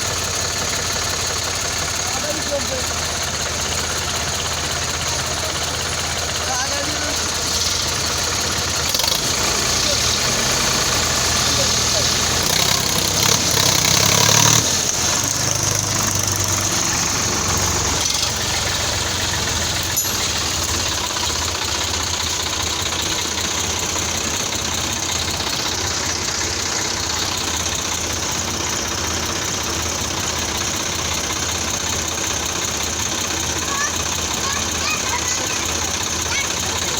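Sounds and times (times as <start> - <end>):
tractor diesel engine knocking: 0.0 - 36.9.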